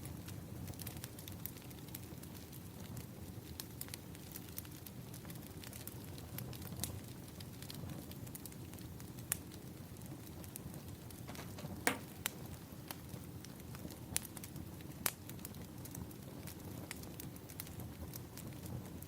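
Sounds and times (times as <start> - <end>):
fire snapping and popping: 0.0 - 19.0
wood fire crackling: 0.0 - 19.0.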